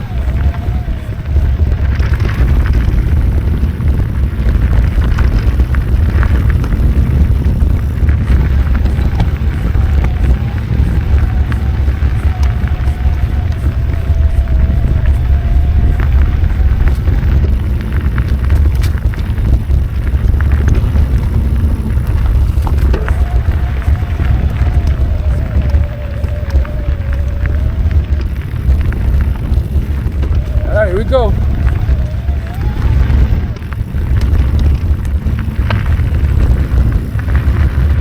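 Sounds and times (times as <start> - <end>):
faint wavering whine: 0.0 - 38.0
wind buffeting microphone: 0.0 - 38.0.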